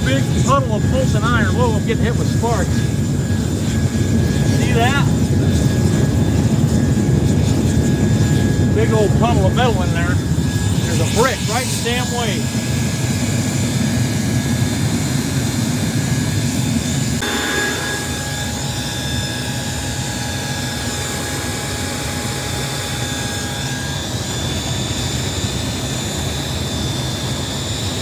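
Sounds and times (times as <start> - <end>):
burner roaring: 0.0 - 24.8.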